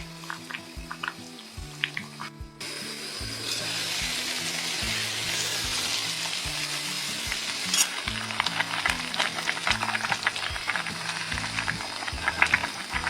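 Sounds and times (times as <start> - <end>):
music with slow bass line: 0.0 - 13.0
steady hiss: 0.0 - 13.0.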